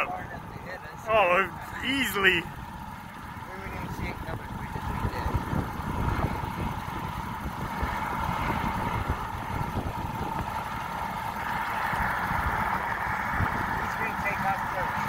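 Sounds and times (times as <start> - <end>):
helicopter turbine whine: 0.0 - 15.0
wind buffeting microphone: 2.5 - 15.0.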